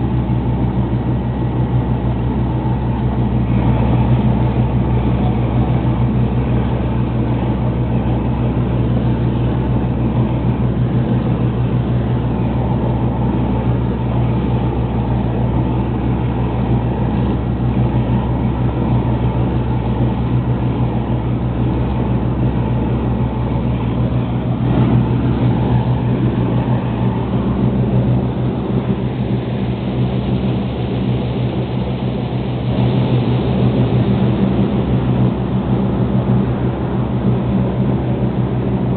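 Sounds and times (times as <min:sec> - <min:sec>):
boat diesel engine droning: 0:00.0 - 0:38.9
rush of churning wake: 0:00.0 - 0:38.9.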